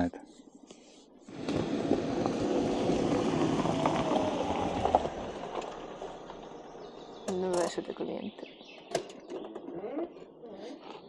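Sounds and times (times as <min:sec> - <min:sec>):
vehicle engine and tyre noise: 0:00.3 - 0:11.0.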